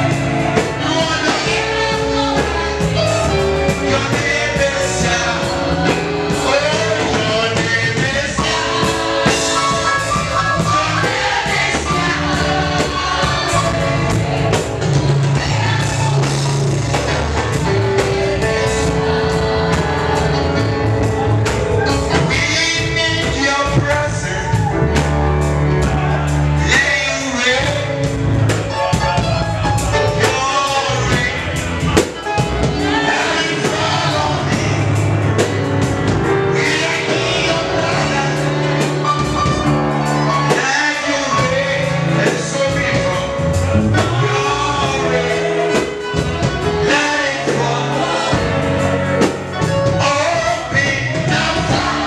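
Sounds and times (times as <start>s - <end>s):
backing singers: 0.0s - 52.0s
bass line: 0.0s - 52.0s
drum kit: 0.0s - 52.0s
lead singer: 0.0s - 52.0s.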